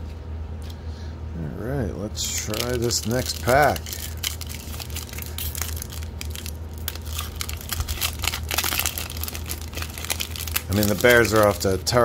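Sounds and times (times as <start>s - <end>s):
foil wrapper crinkling and tearing: 2.2s - 12.0s.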